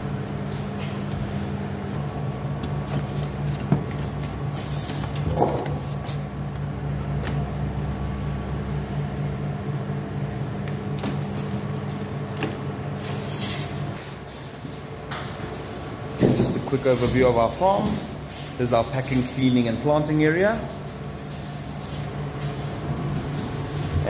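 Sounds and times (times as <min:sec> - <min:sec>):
machine hum with fast pulsing: 0:00.0 - 0:24.0.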